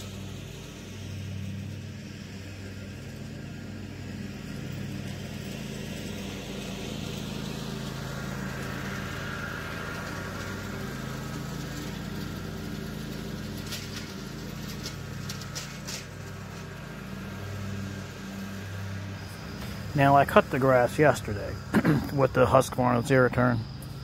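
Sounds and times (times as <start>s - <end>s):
mower engine running: 0.0s - 24.0s.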